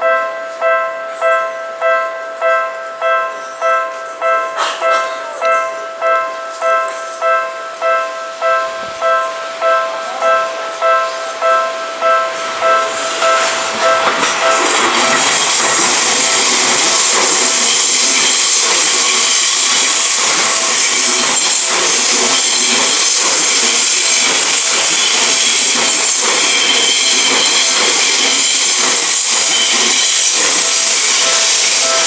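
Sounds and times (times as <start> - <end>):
crossing warning bell: 0.0 - 32.0
train wheels on rails: 0.0 - 32.0.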